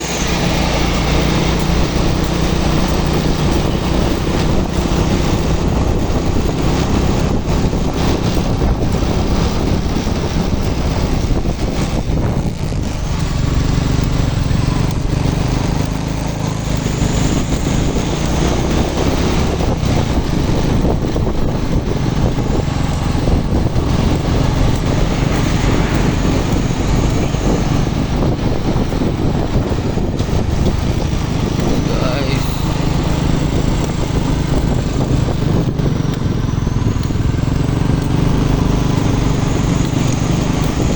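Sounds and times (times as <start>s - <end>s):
truck engine under load: 0.0s - 40.9s.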